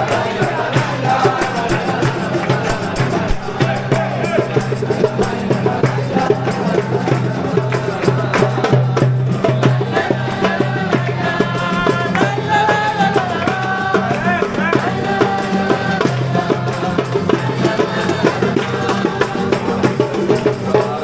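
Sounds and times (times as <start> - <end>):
percussive beat: 0.0 - 21.0.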